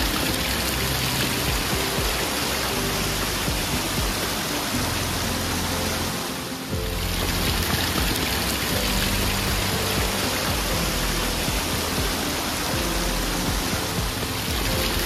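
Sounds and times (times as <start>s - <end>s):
music of held low notes: 0.0s - 15.0s
running water: 0.0s - 15.0s.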